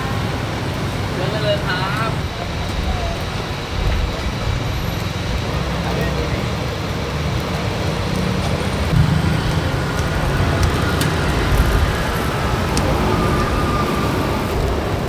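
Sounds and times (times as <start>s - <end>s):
busy road traffic rumble: 0.0s - 15.0s.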